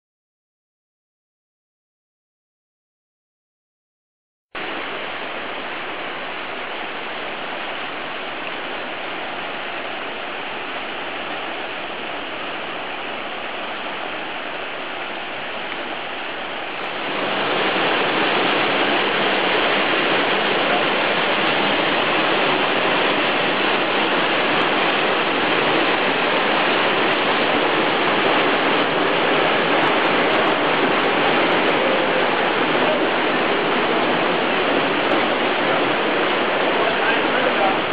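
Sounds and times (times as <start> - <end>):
creek rushing over rocks: 4.6 - 37.9.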